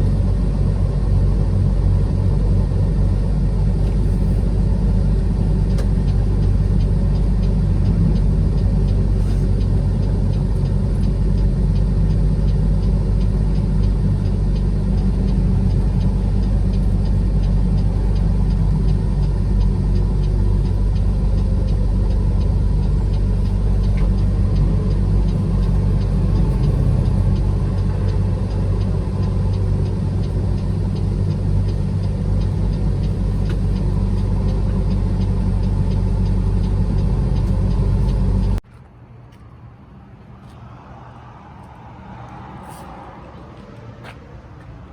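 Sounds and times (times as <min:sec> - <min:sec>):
road noise: 0:00.0 - 0:44.9
truck engine drone: 0:00.0 - 0:44.9.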